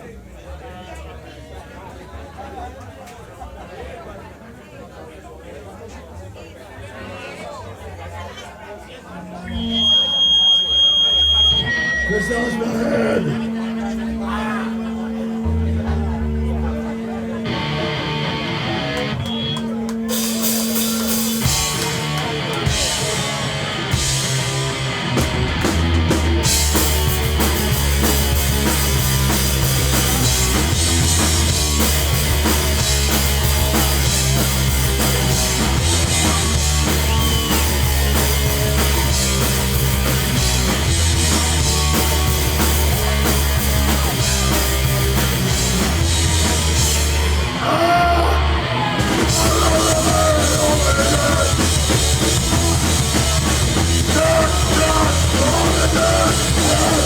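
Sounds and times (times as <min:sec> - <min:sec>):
punk band playing live: 0:09.5 - 0:57.0.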